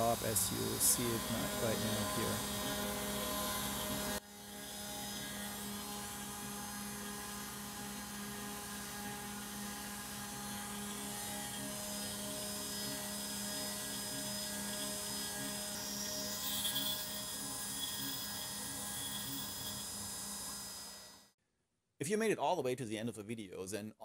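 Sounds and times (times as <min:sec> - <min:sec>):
router spindle cutting metal: 0:00.0 - 0:21.3.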